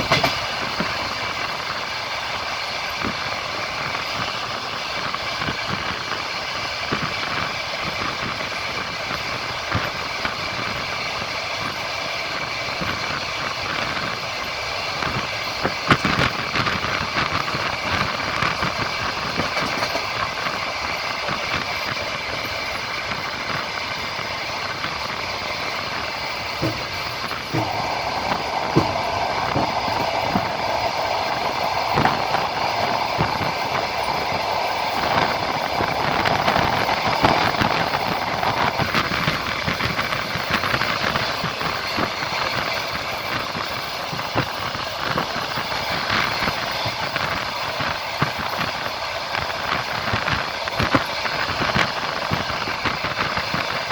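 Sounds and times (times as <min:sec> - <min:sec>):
train rumbling: 0:00.0 - 0:53.9
wheels clacking over rail joints: 0:00.0 - 0:53.9.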